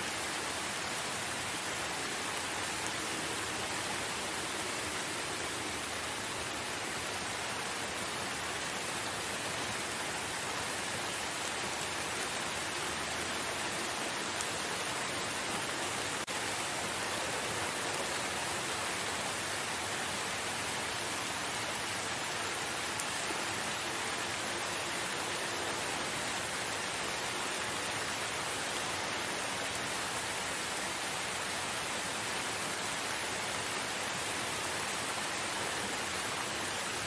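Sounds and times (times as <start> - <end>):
rain falling in forest: 0.0 - 37.0.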